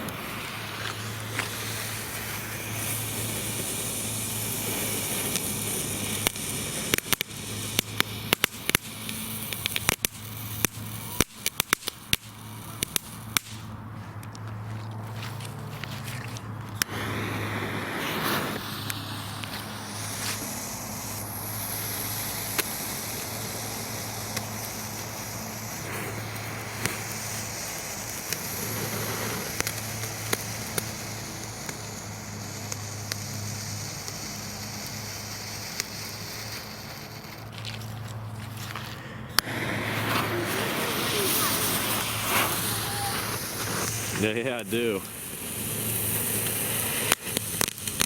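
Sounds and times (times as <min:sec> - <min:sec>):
firework crackles: 0:00.0 - 0:48.0
firework fountain hissing: 0:00.0 - 0:48.0.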